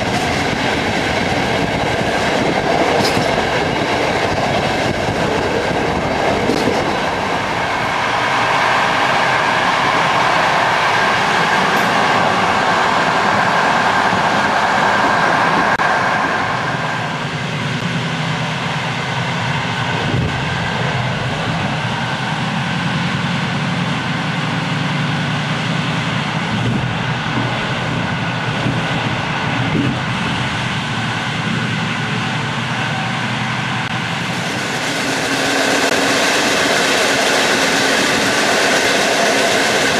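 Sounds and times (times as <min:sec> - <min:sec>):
train rumbling along rails: 0:00.0 - 0:39.9.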